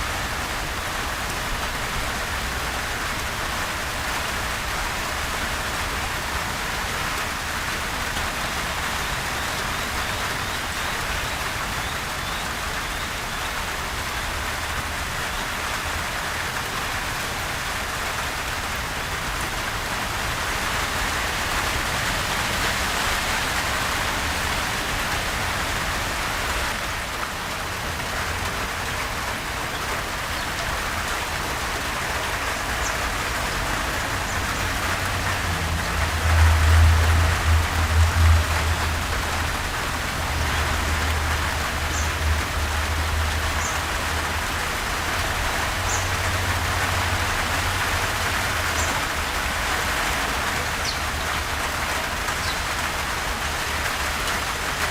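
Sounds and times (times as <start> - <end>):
steady gentle rain: 0.0 - 54.9.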